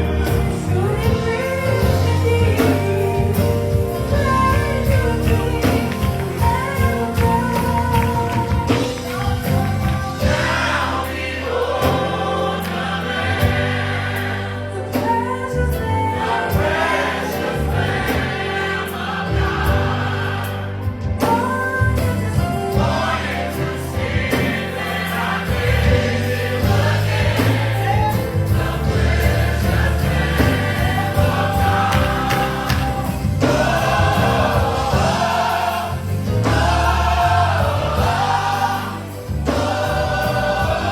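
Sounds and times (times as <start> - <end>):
band accompaniment with bass line: 0.0 - 40.9
gospel choir singing: 0.0 - 40.9.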